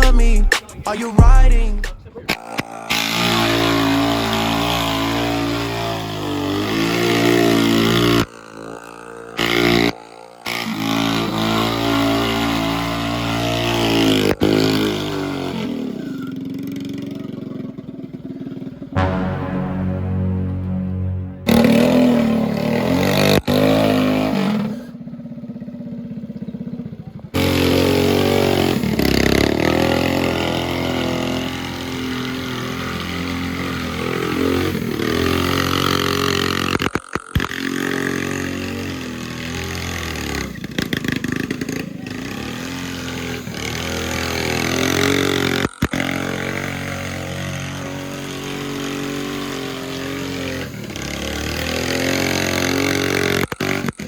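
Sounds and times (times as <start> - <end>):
mini bike engine revving: 2.3 - 18.9, 23.1 - 54.0.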